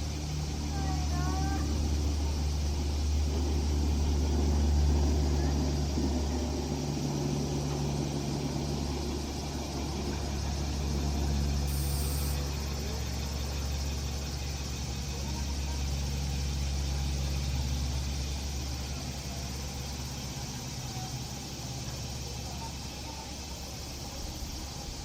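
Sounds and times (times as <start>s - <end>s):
light aircraft engine and propeller: 0.0s - 25.0s.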